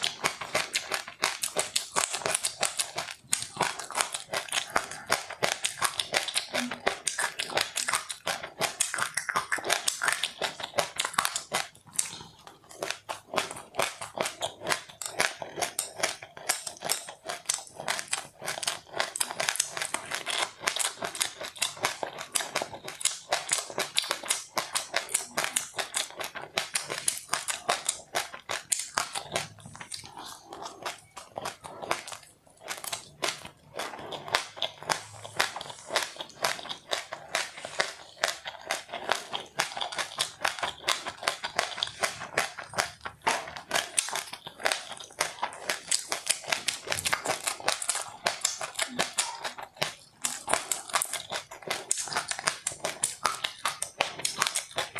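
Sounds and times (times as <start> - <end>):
chewing crunchy food: 0.0 - 54.9.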